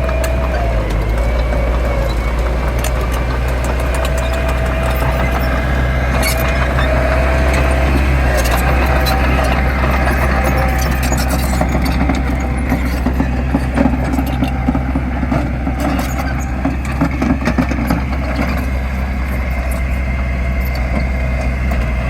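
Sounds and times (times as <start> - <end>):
clanks: 0.0 - 22.0
heavy diesel engine running: 0.0 - 22.0.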